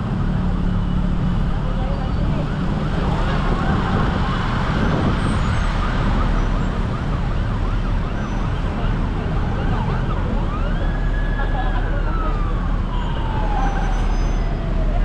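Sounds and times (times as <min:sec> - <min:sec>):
road traffic rumble: 0:00.0 - 0:15.0
sirens wailing: 0:00.0 - 0:15.0.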